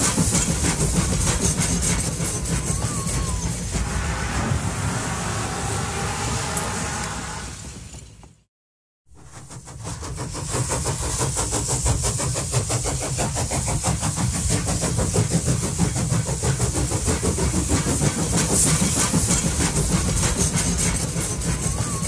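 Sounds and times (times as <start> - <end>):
tram running: 0.0 - 8.5, 9.2 - 22.0.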